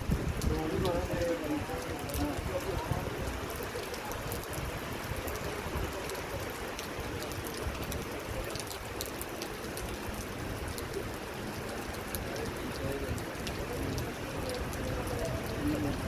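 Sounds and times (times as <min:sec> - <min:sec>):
raindrops ticking close by: 0:00.0 - 0:16.0
steady rain falling: 0:00.0 - 0:16.0.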